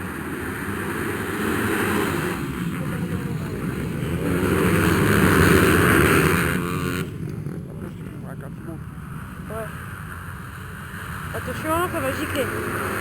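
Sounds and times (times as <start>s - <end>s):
motocross bike engine: 0.0s - 13.0s.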